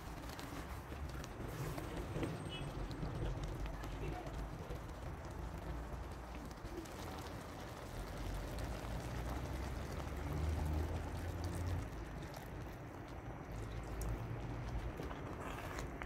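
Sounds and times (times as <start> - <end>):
water pouring into stew: 0.0 - 16.0.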